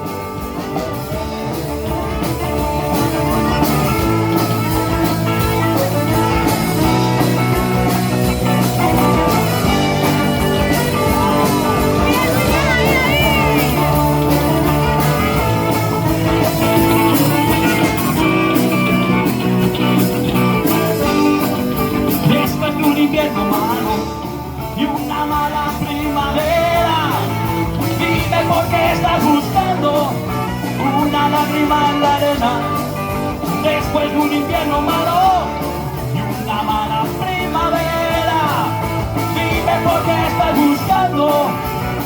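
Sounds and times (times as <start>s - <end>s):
bending melodic lead line: 0.0s - 42.0s
rock band playing: 0.0s - 42.0s.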